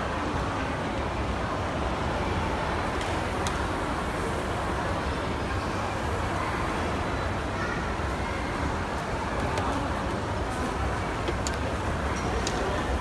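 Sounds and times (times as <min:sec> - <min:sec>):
crowd and building noise: 0:00.0 - 0:13.0.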